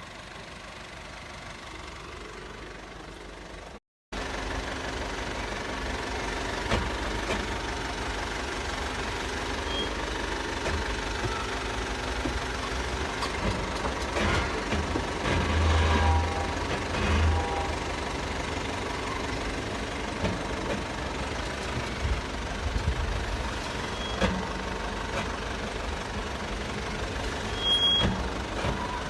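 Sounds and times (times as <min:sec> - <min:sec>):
car interior engine rumble: 0:00.2 - 0:29.0.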